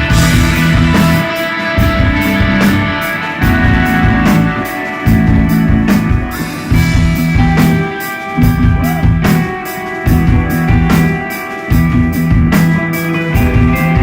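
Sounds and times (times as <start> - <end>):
bass guitar riff: 0.0 - 14.0
drums and cymbals: 0.0 - 14.0
held electric guitar notes: 0.0 - 14.0.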